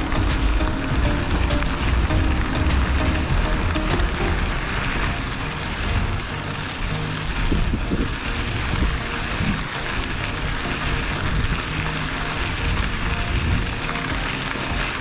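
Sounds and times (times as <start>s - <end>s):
wind noise on microphone: 0.1s - 15.0s.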